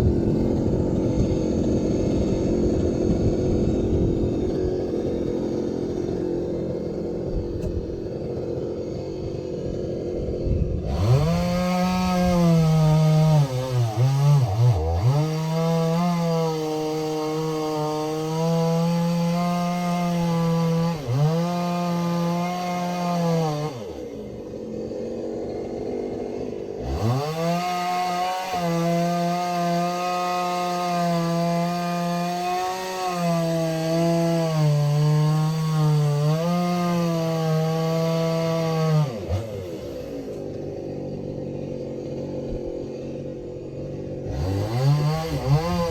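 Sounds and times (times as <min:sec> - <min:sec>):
chainsaw cutting logs: 0:00.0 - 0:45.9.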